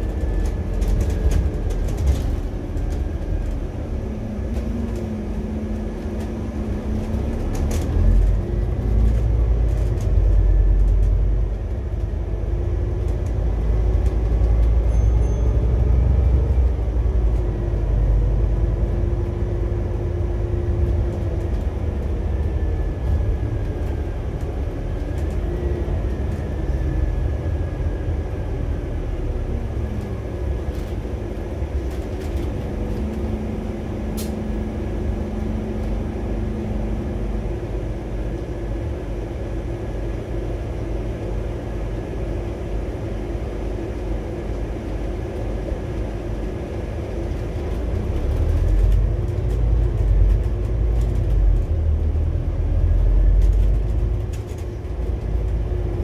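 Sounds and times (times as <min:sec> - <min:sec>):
bus clicks and rattles: 0:00.0 - 0:56.0
bus engine rumble: 0:00.0 - 0:56.0.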